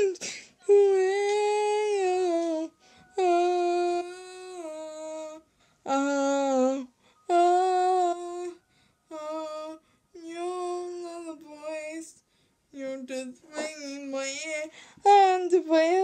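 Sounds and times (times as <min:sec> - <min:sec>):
girl singing: 0:00.0 - 0:12.2, 0:12.8 - 0:16.0.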